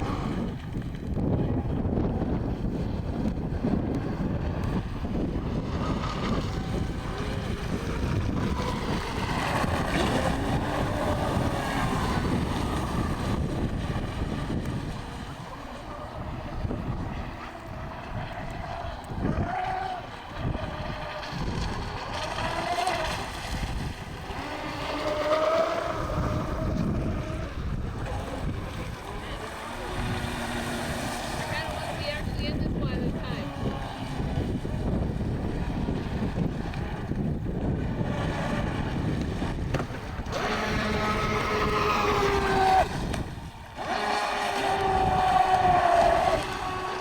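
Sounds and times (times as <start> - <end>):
toy boat motor whine: 0.0 - 47.0
wind buffeting microphone: 0.0 - 47.0.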